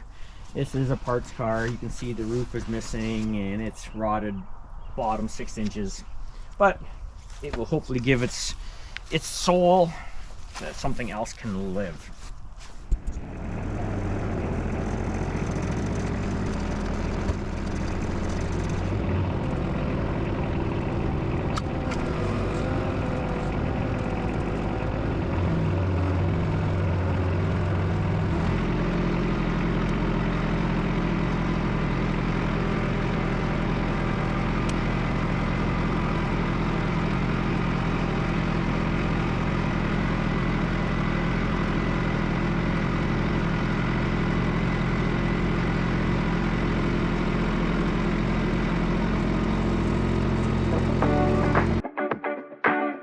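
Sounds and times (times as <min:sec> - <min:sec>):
vehicle engine running: 0:00.0 - 0:03.7, 0:12.9 - 0:51.8.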